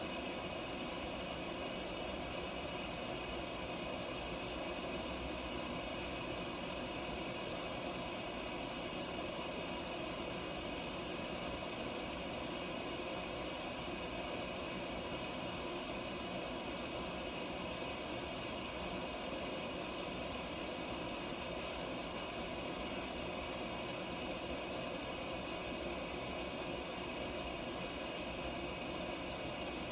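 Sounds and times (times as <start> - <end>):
stove burner hissing: 0.0 - 29.9.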